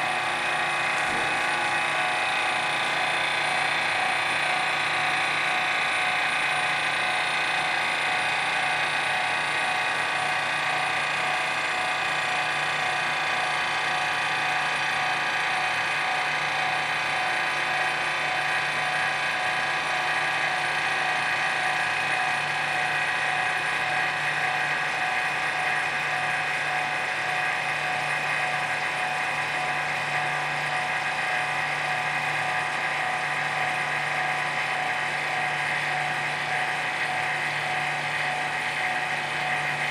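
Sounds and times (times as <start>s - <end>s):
vacuum pump humming: 0.0s - 39.9s.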